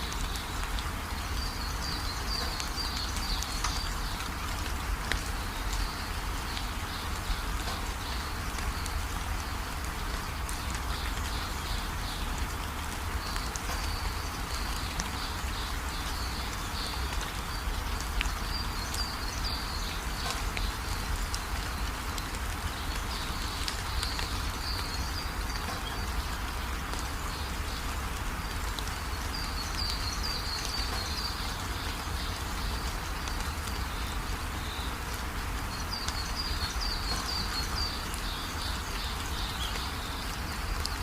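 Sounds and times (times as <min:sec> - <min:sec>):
steady rainfall: 0:00.0 - 0:41.0.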